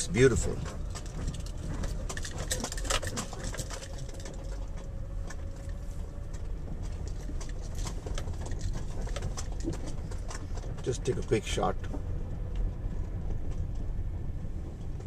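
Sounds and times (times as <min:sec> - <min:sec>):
car engine and road rumble: 0:00.0 - 0:15.0
light clicks and rattles: 0:00.0 - 0:15.0.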